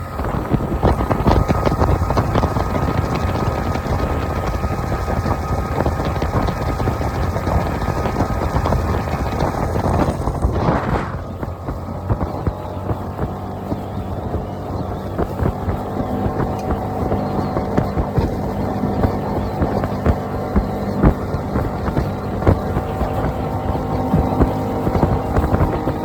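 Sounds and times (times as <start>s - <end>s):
outboard motor running: 0.0s - 26.0s
wind buffeting microphone: 0.0s - 26.0s.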